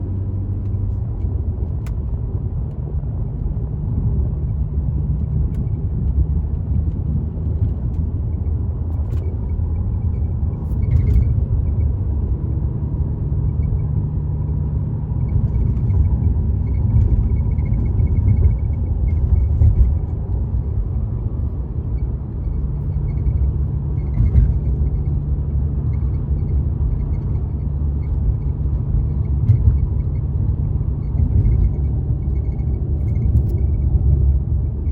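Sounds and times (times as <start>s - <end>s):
car cabin road rumble: 0.0s - 34.9s.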